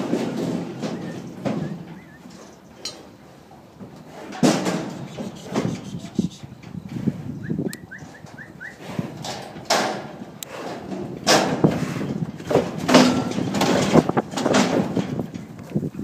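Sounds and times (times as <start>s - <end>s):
hooves knocking on wooden boards: 0.0s - 6.8s, 7.8s - 16.0s.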